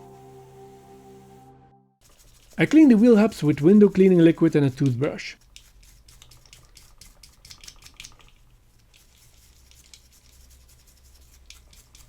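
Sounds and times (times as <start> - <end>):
toothbrush scrubbing metal: 2.0 - 12.0.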